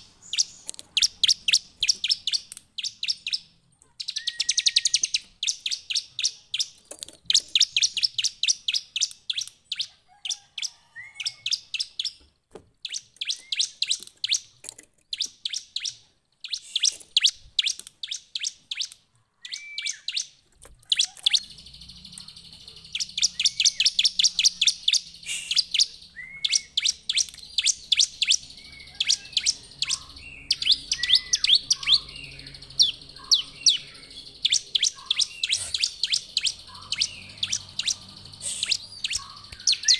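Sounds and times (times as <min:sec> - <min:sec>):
bird singing high chirps: 0:00.0 - 0:12.2, 0:12.8 - 0:39.9.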